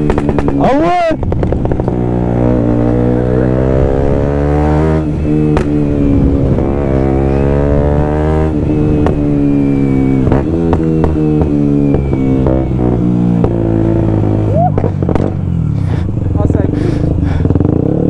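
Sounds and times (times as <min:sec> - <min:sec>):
motorcycle engine shifting gears: 0:00.0 - 0:18.0.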